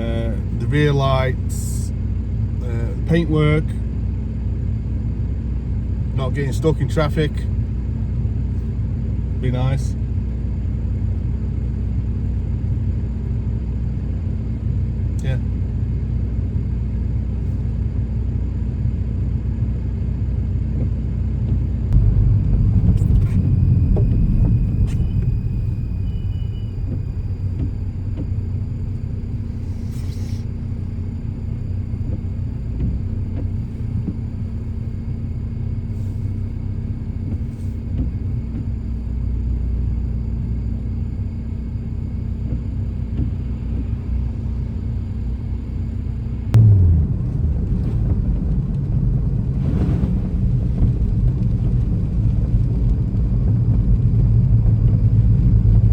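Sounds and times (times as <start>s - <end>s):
droning hum: 0.0s - 55.9s
road and engine rumble: 0.0s - 55.9s.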